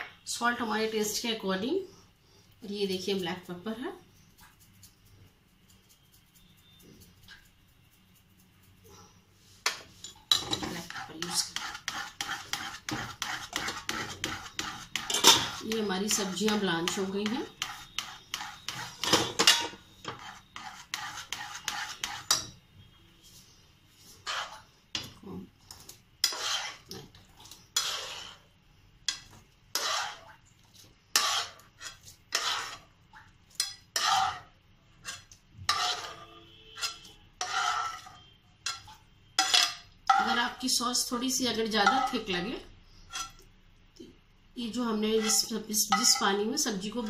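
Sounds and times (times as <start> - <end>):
spoon stirring in saucepan: 2.6 - 43.7, 44.7 - 47.0.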